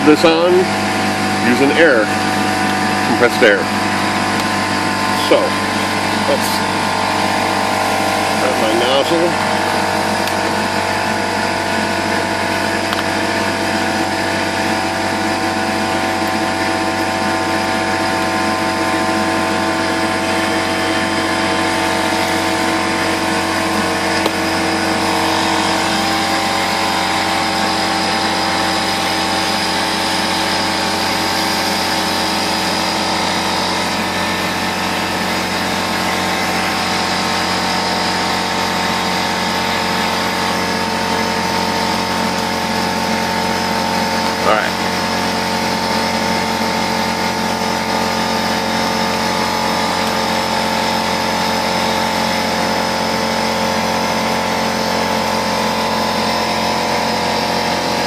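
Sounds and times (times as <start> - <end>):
air compressor running: 0.0 - 58.0.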